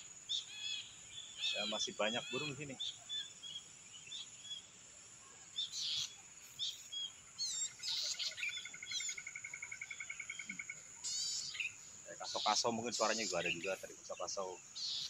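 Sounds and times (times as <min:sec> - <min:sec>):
bird trill: 0:00.0 - 0:04.7, 0:05.5 - 0:15.0
birds chirping: 0:00.0 - 0:15.0
high insect hiss: 0:00.0 - 0:15.0.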